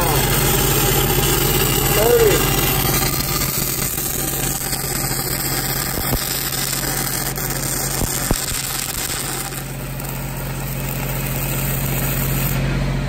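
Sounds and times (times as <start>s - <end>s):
diesel welder engine hum: 0.0s - 13.0s
welding arc crackling and hissing: 0.0s - 13.0s.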